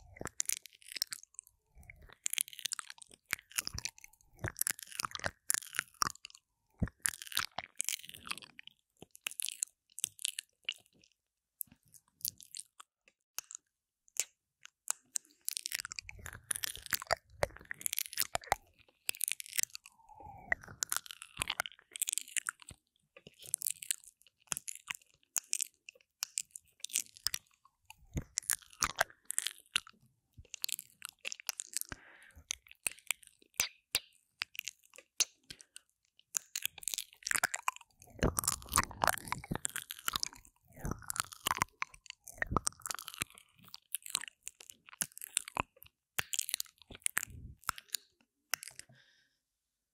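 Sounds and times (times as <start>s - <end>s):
wet mouth clicks and smacks: 0.1s - 49.2s.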